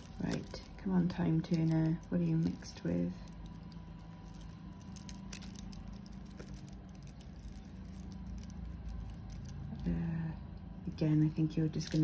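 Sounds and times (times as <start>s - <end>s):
jewellery chains and beads clicking: 0.0s - 9.9s.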